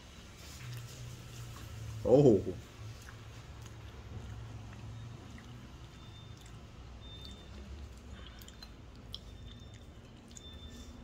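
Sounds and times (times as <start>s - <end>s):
low steady hum: 0.0s - 11.0s
chewing fried chicken: 0.1s - 11.0s.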